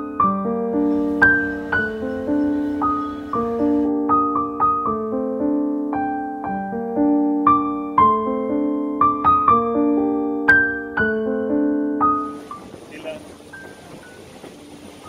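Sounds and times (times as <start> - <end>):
piano music: 0.0 - 14.7.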